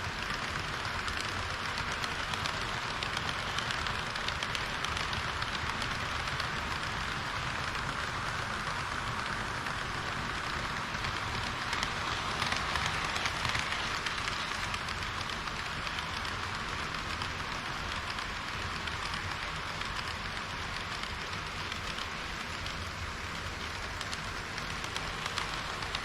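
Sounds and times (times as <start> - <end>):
model train wheels rattling: 0.0 - 26.0.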